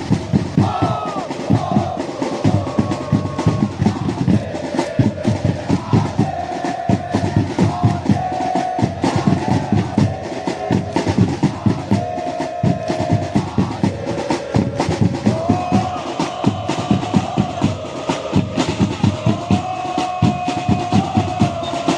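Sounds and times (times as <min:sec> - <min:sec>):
crowd chanting: 0:00.0 - 0:21.9
drums beaten in fast rhythm: 0:00.0 - 0:21.9.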